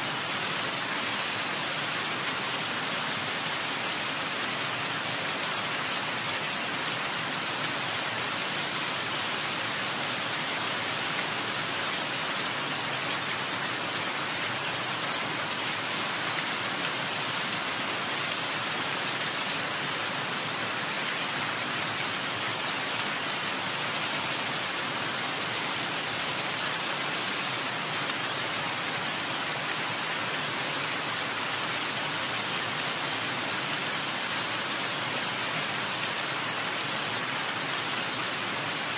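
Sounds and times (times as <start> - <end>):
rushing water hiss: 0.0 - 38.9.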